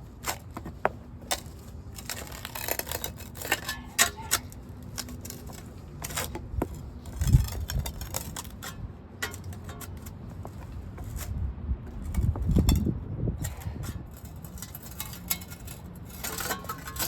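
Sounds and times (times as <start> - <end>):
stone pavers clicking and scraping: 0.0 - 17.0.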